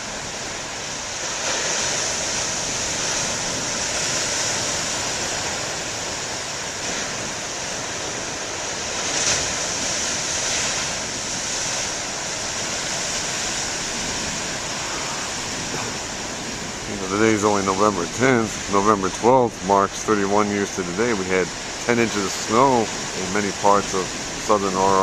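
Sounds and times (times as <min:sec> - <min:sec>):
waves breaking on a beach: 0:00.0 - 0:25.0.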